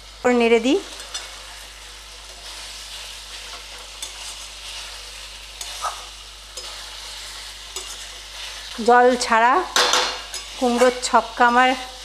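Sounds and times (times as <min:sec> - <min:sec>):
vegetables sizzling in oil: 0:00.0 - 0:12.0
spatula scraping and tapping pan: 0:00.9 - 0:01.6, 0:02.3 - 0:11.2.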